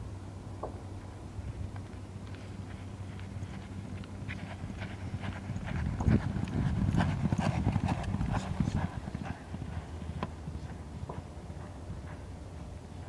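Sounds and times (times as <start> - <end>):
horse galloping on dirt: 1.7 - 13.0.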